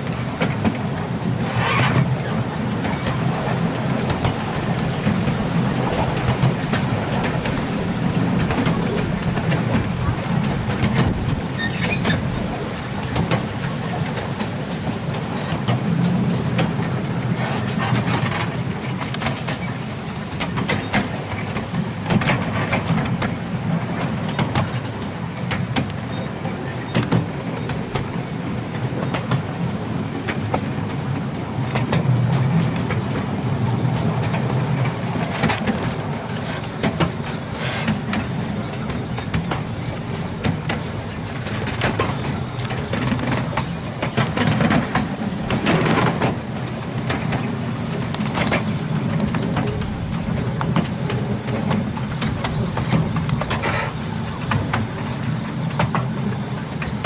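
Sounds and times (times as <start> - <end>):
miniature train wheels rumbling: 0.0 - 57.0.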